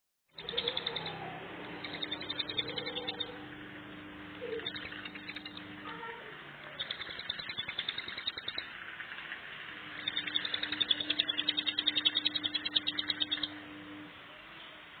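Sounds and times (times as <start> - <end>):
bird singing rapid high notes: 0.3 - 3.8, 4.4 - 14.0.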